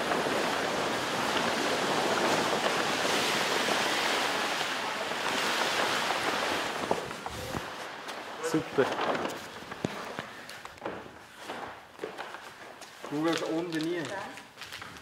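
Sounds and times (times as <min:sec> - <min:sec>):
large paper sheet rustling: 0:00.0 - 0:15.0.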